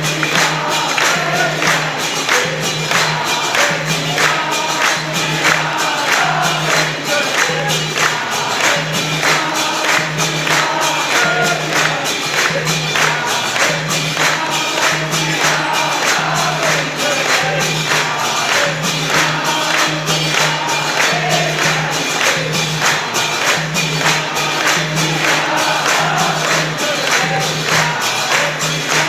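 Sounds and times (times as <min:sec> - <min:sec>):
congregation singing in chorus: 0:00.0 - 0:29.0
jingling percussion: 0:00.0 - 0:29.0
rhythmic hand-clapping: 0:00.0 - 0:29.0.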